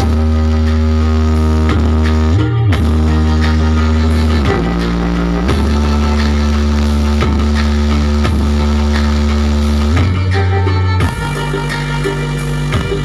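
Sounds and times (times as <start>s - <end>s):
deep bass notes: 0.0s - 13.0s
loud music through speakers: 0.0s - 13.0s.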